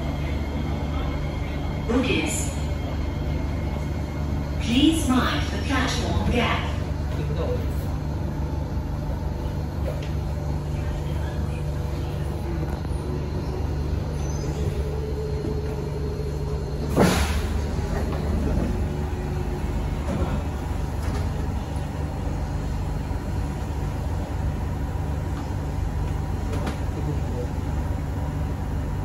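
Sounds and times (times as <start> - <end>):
low train hum: 0.0 - 29.0.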